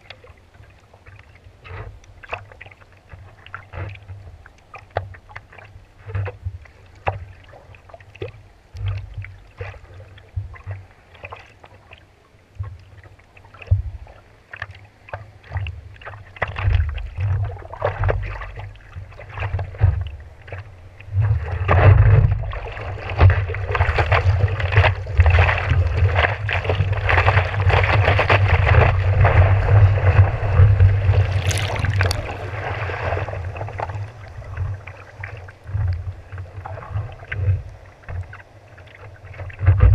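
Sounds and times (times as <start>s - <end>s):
water lapping against a board: 0.0s - 39.9s.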